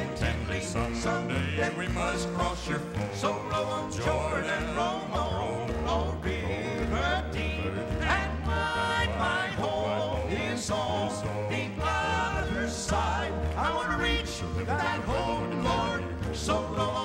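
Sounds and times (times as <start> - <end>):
men singing in harmony: 0.0 - 17.0
piano: 0.0 - 17.0
upright bass: 0.0 - 17.0.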